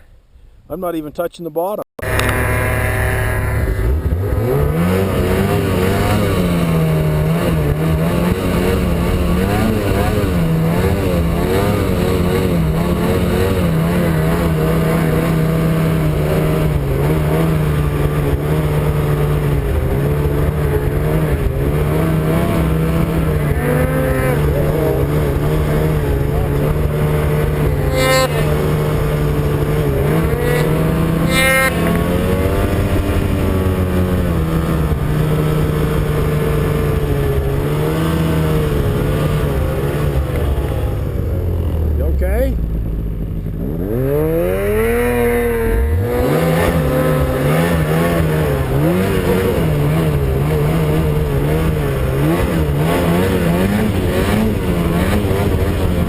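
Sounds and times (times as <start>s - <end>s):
snowmobile engine running hard: 2.0s - 56.0s.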